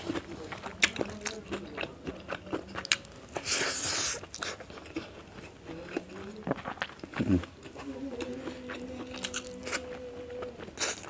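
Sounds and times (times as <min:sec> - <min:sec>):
person chewing with crunches: 0:00.0 - 0:11.0.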